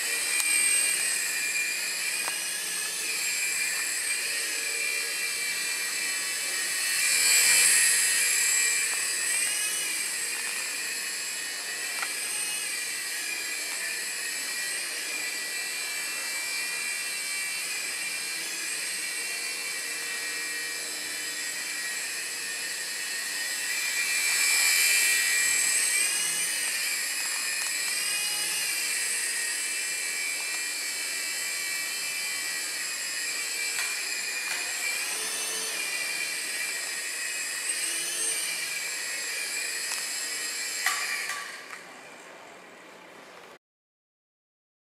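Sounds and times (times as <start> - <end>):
toy helicopter motors whining: 0.0 - 41.8.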